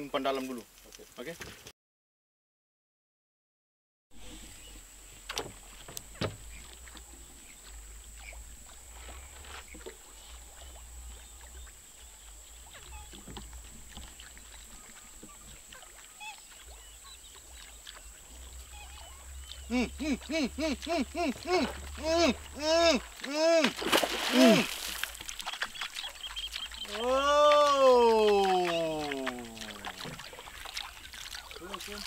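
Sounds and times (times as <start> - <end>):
boat engine low rumble: 4.2 - 23.6, 25.0 - 32.0
water washing along hull: 5.2 - 32.0.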